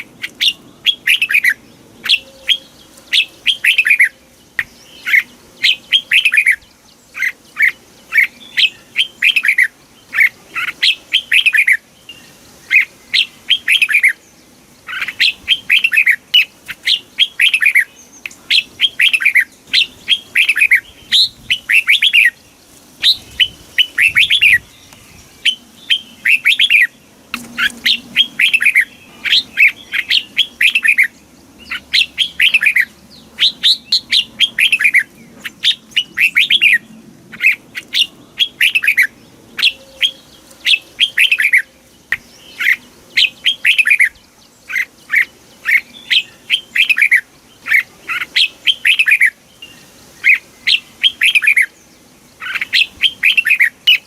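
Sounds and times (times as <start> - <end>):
bulbul singing: 0.0 - 54.0.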